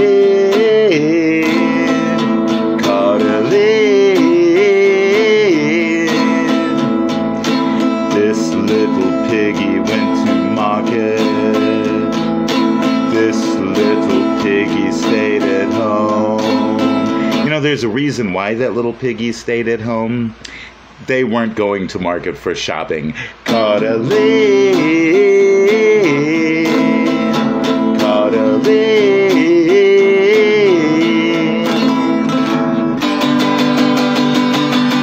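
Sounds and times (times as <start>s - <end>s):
man singing: 0.0s - 20.5s, 22.9s - 32.7s
acoustic guitar strumming: 0.0s - 22.6s, 23.2s - 35.0s.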